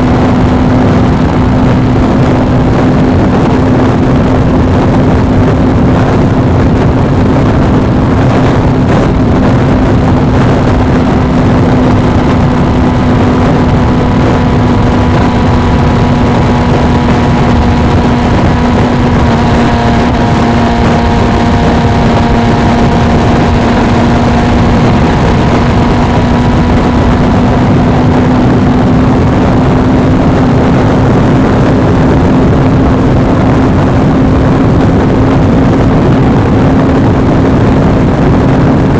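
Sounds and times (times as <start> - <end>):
motorcycle engine cruising: 0.0 - 38.9
wind noise on microphone: 0.0 - 38.9.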